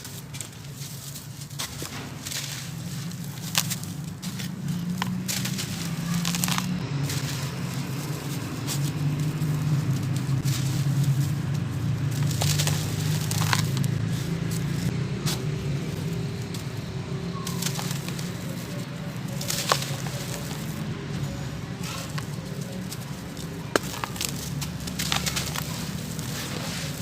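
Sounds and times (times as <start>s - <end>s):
cement chunks crumbling: 0.0s - 27.0s.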